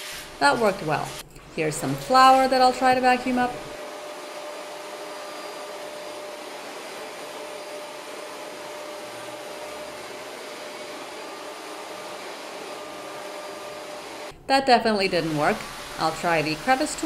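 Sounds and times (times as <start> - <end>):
vacuum cleaner whine and air rush: 0.0 - 17.0.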